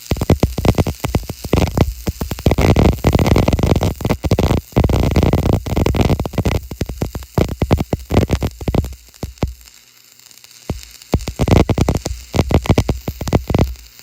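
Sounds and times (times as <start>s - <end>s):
welding arc crackling: 0.0s - 14.0s.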